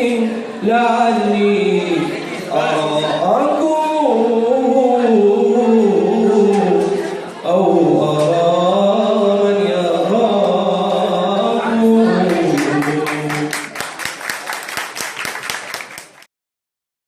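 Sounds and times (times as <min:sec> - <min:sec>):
man singing unaccompanied: 0:00.0 - 0:13.8.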